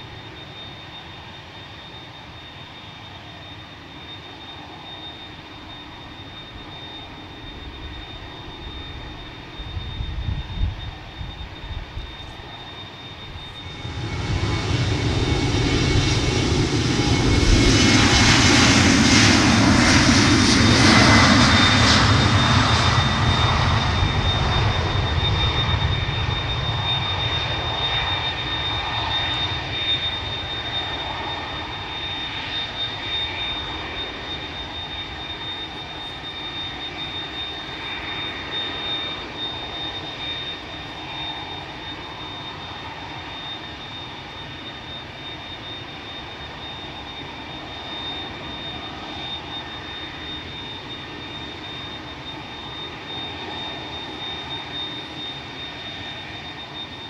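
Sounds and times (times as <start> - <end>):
high-pitched jet whine: 0.0 - 57.0
jet engines roaring: 0.0 - 57.0.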